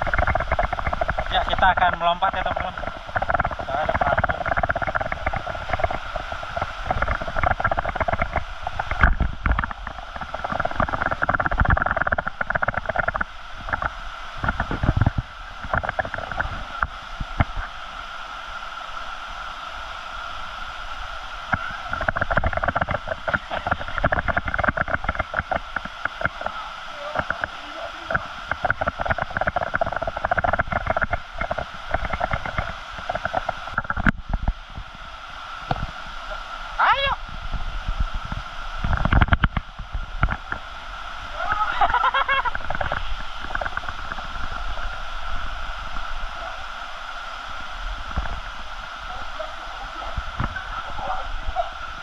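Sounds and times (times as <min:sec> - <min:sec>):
waterfall rushing and splashing: 0:00.0 - 0:52.0.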